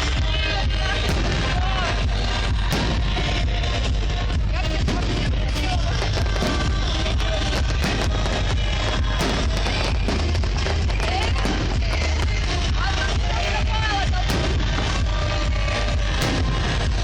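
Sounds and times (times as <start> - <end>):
firework bangs and crackling: 0.0 - 17.0
music playing: 0.0 - 17.0.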